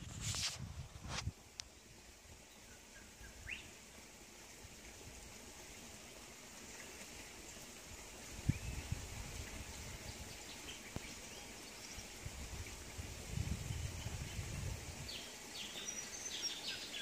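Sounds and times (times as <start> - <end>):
outdoor ambience: 0.0 - 17.0.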